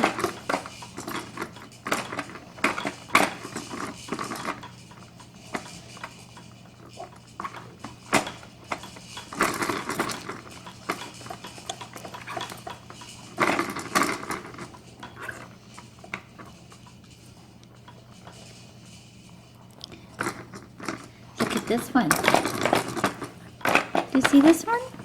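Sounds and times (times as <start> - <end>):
plastic toys clicking and clattering: 0.0 - 18.7, 19.7 - 25.0.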